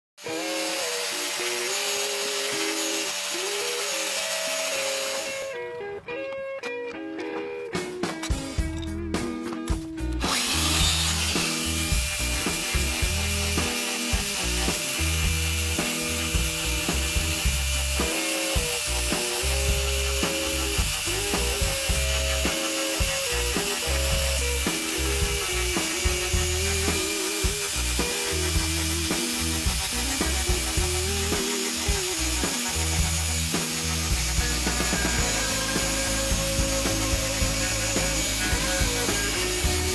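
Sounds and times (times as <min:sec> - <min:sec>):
angle grinder carving wood: 0:00.2 - 0:05.8, 0:10.0 - 0:39.9
background music with bass line: 0:05.6 - 0:39.9.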